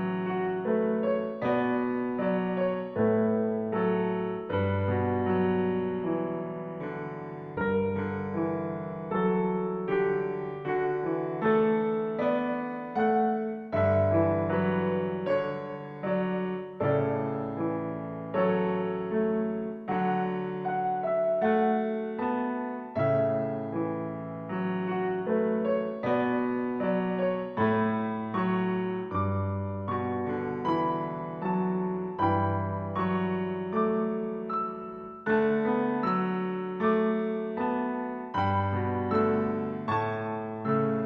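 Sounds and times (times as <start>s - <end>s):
gentle piano music: 0.0s - 41.0s.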